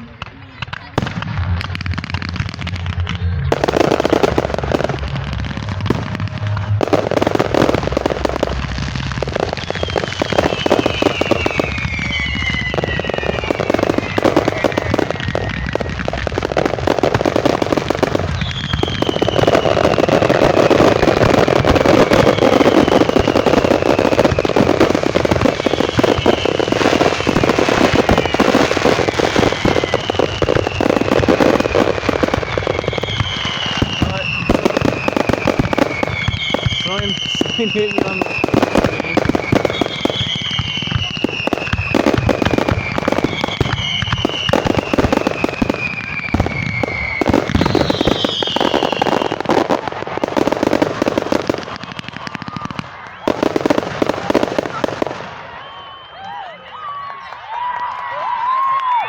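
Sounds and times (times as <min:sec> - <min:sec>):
fireworks crackling bangs: 0:00.0 - 0:59.0
falling firework whistles: 0:09.2 - 0:59.0.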